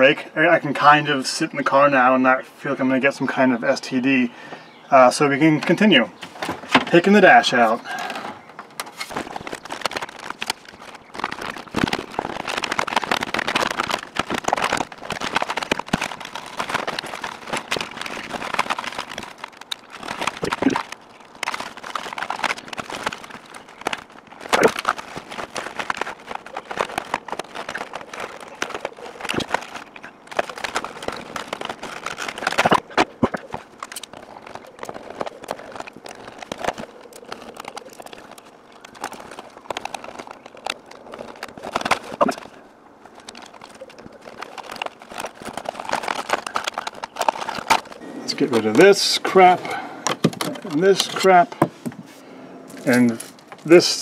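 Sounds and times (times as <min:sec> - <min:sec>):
rustling: 0:04.5 - 0:54.0.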